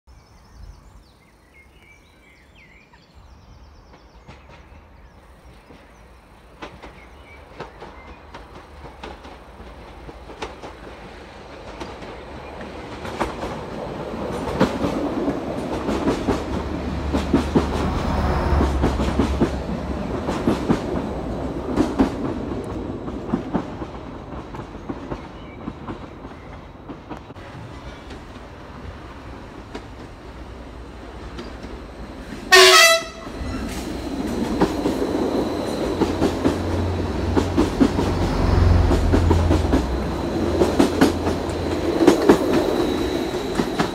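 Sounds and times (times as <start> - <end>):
train engine rumble: 2.7 - 43.9.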